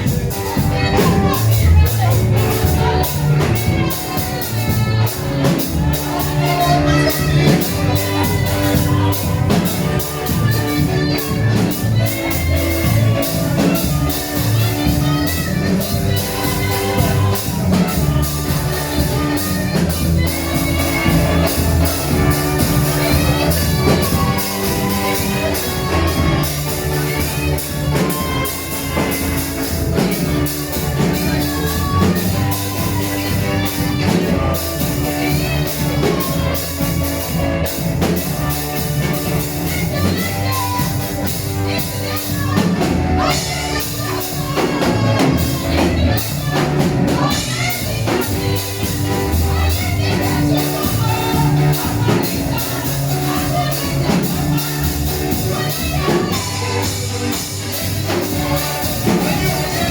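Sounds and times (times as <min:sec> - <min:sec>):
bass line: 0:00.0 - 0:59.9
drum kit beat: 0:00.0 - 0:59.9
praise band playing: 0:00.0 - 0:59.9
voices singing: 0:00.0 - 0:59.9.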